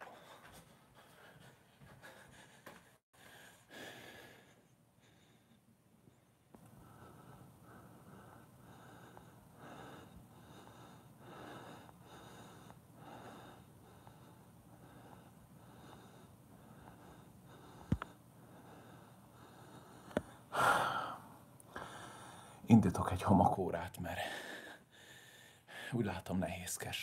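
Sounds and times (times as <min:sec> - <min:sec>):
man breathing: 0:00.0 - 0:22.7, 0:24.2 - 0:26.0.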